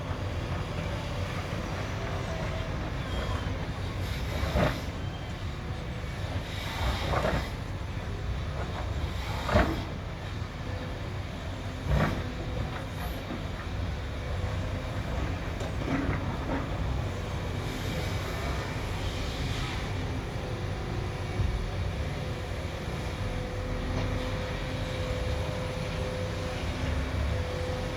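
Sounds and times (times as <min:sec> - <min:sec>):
diesel machinery rumbling: 0:00.0 - 0:27.9.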